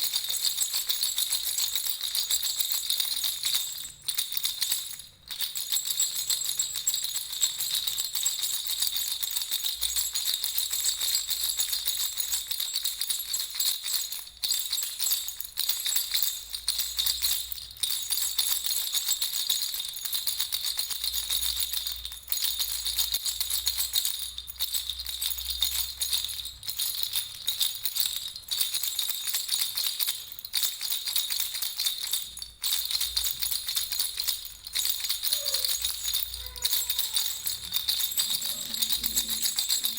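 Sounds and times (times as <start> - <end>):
baby rattle bells jingling: 0.0 - 39.9.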